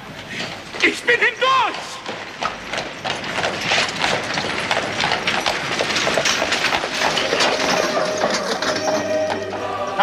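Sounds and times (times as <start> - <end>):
horse hooves clopping: 0.0 - 10.0.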